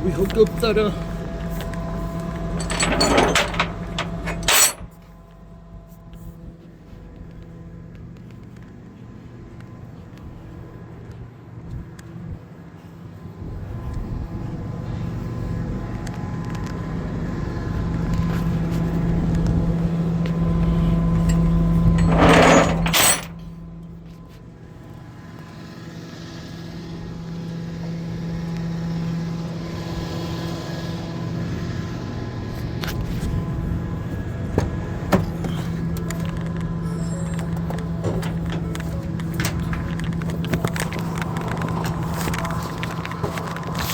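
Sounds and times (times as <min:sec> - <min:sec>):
tow truck engine and hydraulics: 0:00.0 - 0:43.9.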